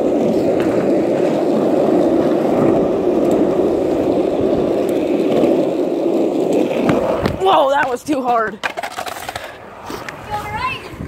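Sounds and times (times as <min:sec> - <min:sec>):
skateboard wheels rolling on asphalt: 0:00.0 - 0:11.0.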